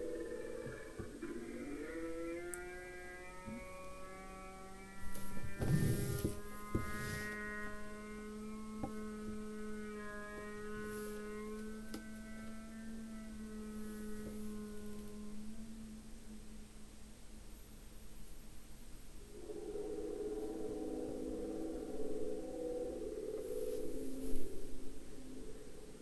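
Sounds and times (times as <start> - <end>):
low humming animal call drone: 0.0 - 18.0, 18.8 - 26.0.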